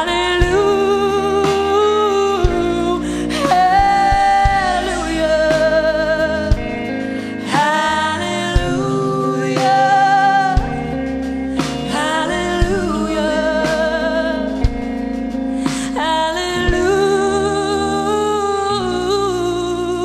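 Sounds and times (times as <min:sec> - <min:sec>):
woman singing into a microphone: 0:00.0 - 0:15.0, 0:15.6 - 0:20.0
instrumental accompaniment: 0:00.0 - 0:20.0.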